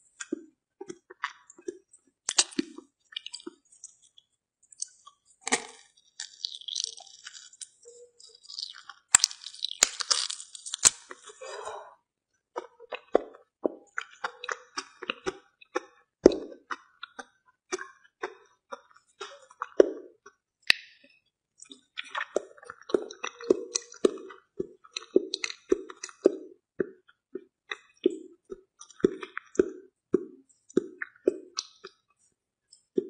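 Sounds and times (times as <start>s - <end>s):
person chewing soft food: 0.0s - 11.4s, 12.5s - 33.0s
wet mouth smacks and clicks: 0.2s - 4.0s, 4.7s - 7.7s, 8.4s - 11.2s, 12.6s - 20.8s, 21.6s - 32.0s.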